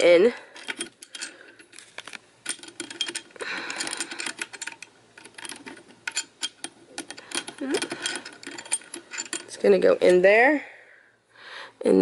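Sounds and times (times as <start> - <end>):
metal clamp clicking and rattling: 0.6 - 10.2.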